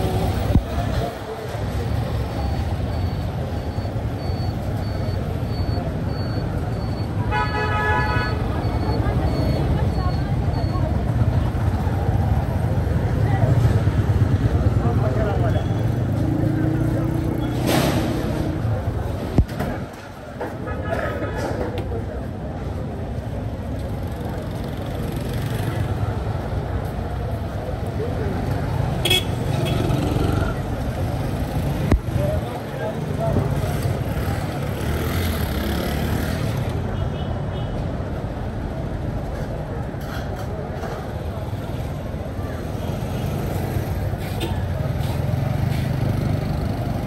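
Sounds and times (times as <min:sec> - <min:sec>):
low rumble of motor traffic: 0:00.0 - 0:47.0.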